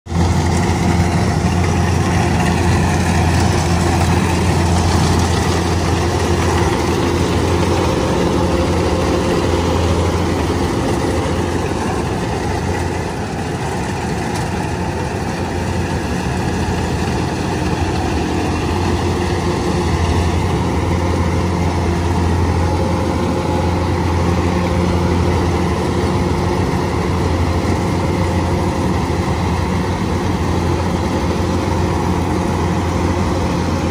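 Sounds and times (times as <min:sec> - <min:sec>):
combine harvester engine running: 0:00.1 - 0:33.9.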